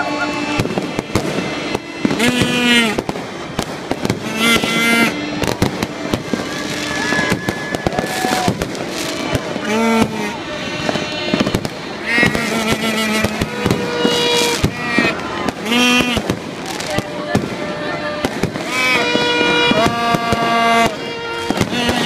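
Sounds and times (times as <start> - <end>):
fireworks bangs and crackles: 0.0 - 22.0
horn tooting: 0.0 - 22.0.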